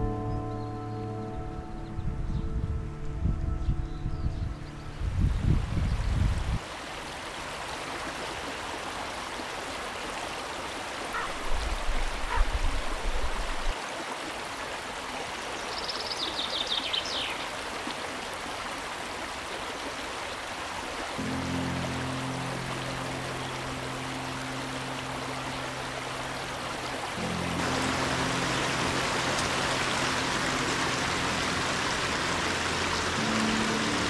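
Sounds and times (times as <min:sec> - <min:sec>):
stream rushing over rocks: 0:05.3 - 0:34.0.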